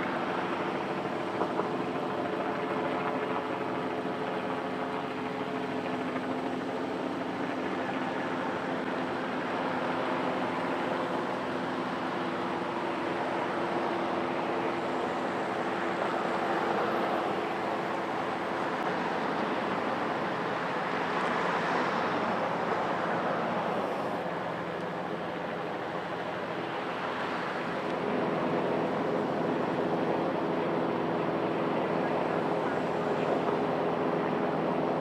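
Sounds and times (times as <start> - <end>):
helicopter rotor and engine: 0.0 - 35.0.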